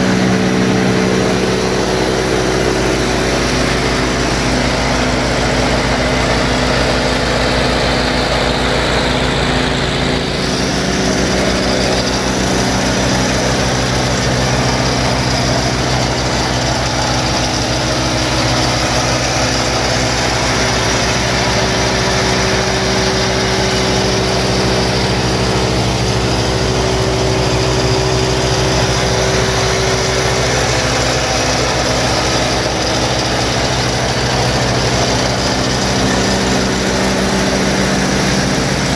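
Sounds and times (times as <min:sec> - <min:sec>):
wood chipper engine running: 0:00.0 - 0:38.9.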